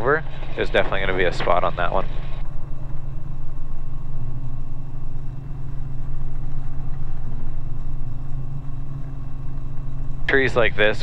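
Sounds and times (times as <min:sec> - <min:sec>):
helicopter engine and rotors drone: 0:00.0 - 0:11.0.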